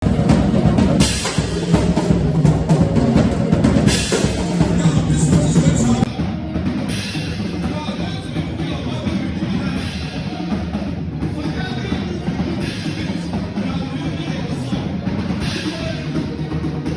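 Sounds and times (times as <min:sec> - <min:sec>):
fast drum kit music: 0:00.0 - 0:16.9.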